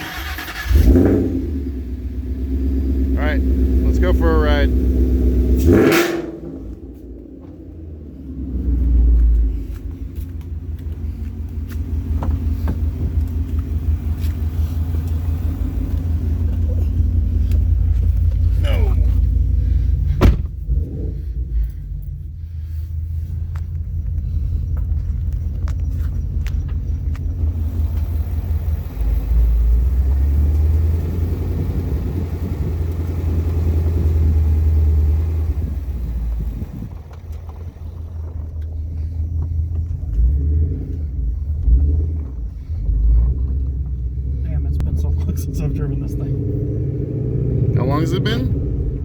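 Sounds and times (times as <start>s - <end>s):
car engine rumbling: 0.0s - 49.0s.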